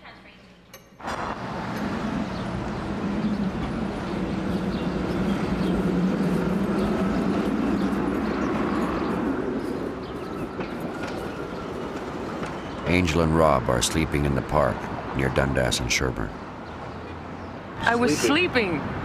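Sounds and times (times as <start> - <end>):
passing vehicle rumble: 1.0 - 19.0.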